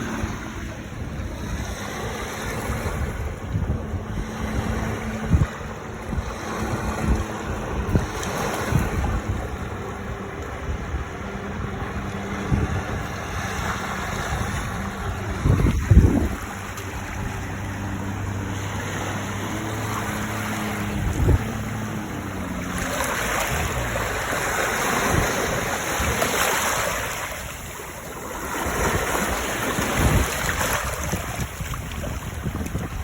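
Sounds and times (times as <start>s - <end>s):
low motor hum: 0.0s - 33.0s
water sloshing: 0.0s - 33.0s
wind on microphone: 0.0s - 33.0s.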